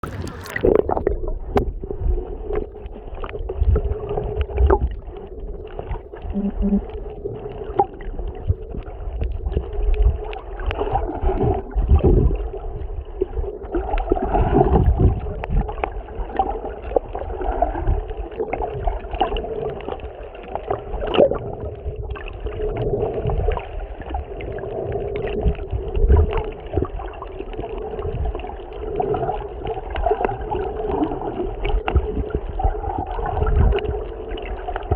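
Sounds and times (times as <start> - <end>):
muffled underwater sloshing: 0.0 - 34.9.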